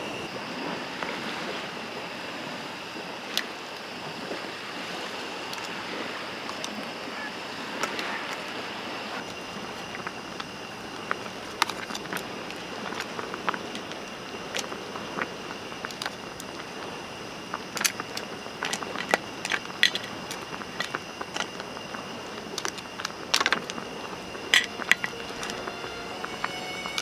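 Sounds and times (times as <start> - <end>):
camp stove hiss: 0.0 - 27.0.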